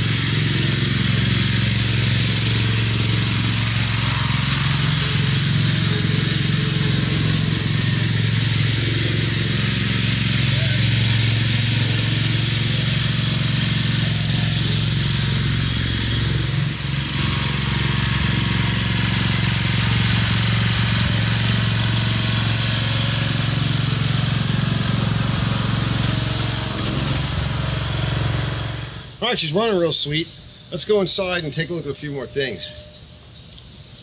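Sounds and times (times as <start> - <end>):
lawn tractor engine humming: 0.0 - 32.7.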